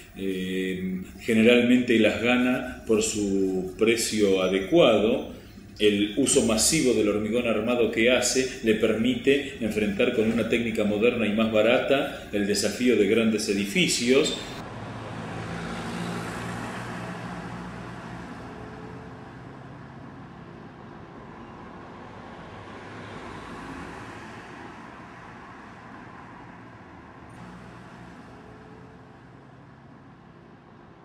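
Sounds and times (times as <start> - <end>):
car passing: 0.0 - 31.0.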